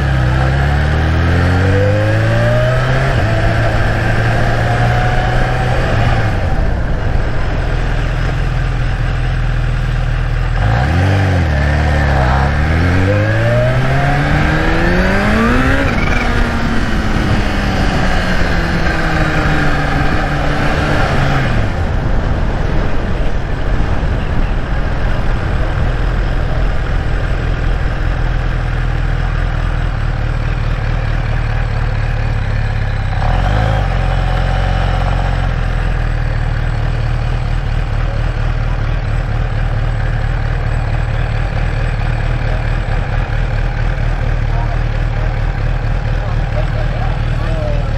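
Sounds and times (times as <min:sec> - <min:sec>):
motorcycle engine revving and idling: 0:00.0 - 0:47.9.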